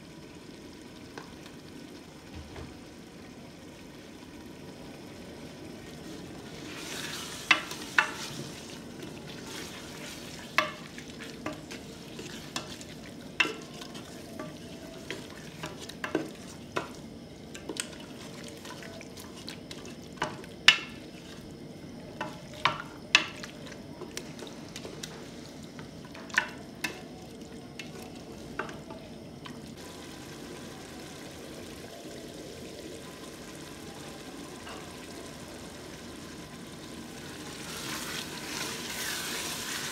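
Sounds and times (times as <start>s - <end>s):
curry sizzling: 0.0s - 39.9s.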